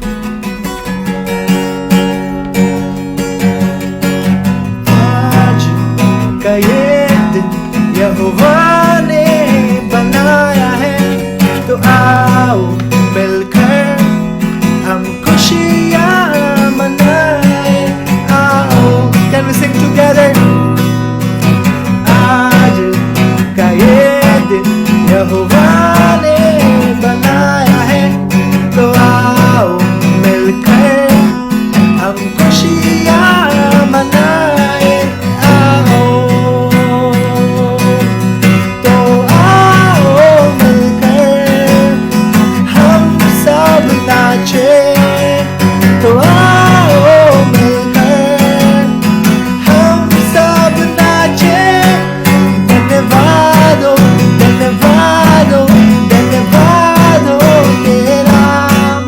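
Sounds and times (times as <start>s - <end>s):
acoustic guitar strumming: 0.0s - 59.0s
man singing worship song: 4.7s - 59.0s.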